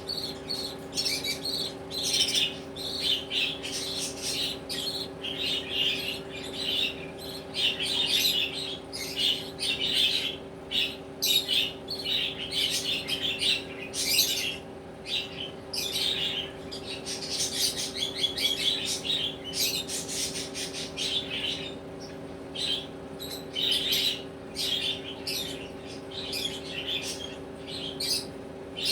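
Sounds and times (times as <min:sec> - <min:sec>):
budgerigars chirping and squawking: 0:00.0 - 0:28.9
steady low hum: 0:00.0 - 0:28.9.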